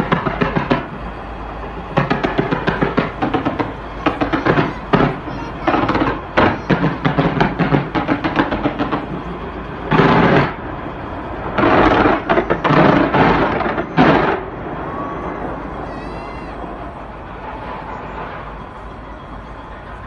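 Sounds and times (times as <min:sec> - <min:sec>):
fireworks exploding: 0:00.0 - 0:19.6.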